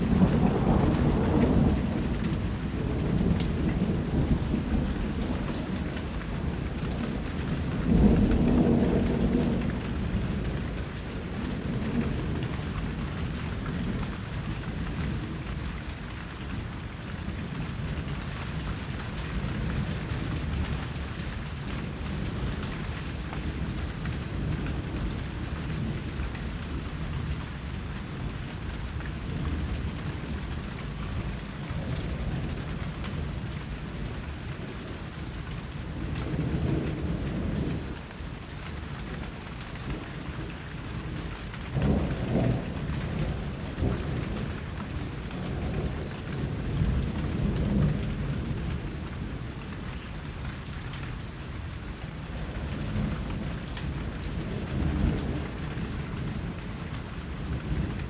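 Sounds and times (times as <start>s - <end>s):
low rolling thunder: 0.0s - 58.0s
steady rain falling: 0.0s - 58.0s.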